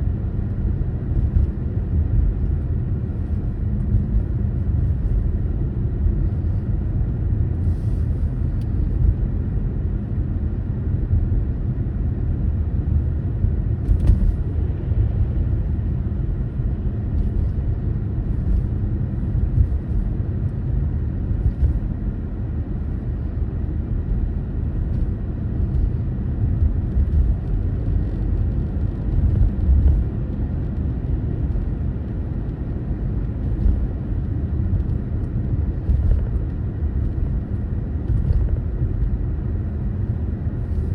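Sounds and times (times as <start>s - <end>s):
car engine rumble: 0.0s - 40.9s.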